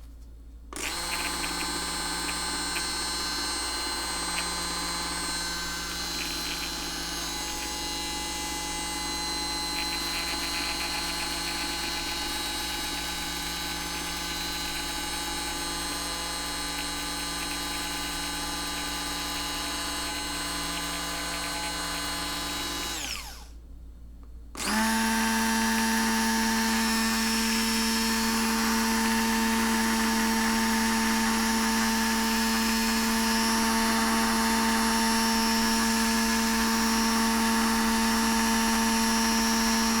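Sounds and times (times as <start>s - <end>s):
hand blender motor whining: 0.8s - 23.5s, 24.6s - 40.0s.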